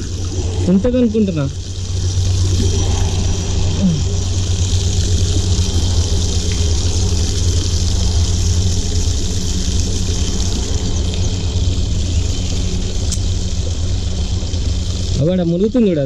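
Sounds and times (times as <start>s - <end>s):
water pouring into pond: 0.0s - 16.0s.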